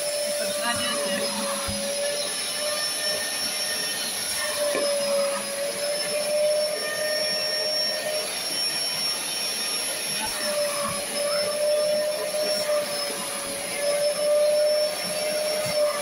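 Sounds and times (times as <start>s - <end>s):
upholstery tool sucking across fabric: 0.0s - 16.0s
vacuum motor whining: 0.0s - 16.0s.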